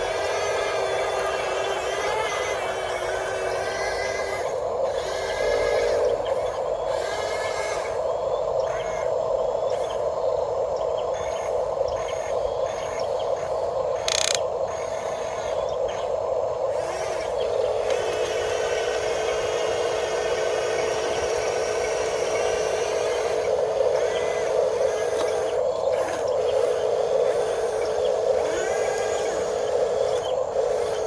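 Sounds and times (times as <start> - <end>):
electric motors whining: 0.0 - 31.0
faint high servo whine: 0.0 - 31.0.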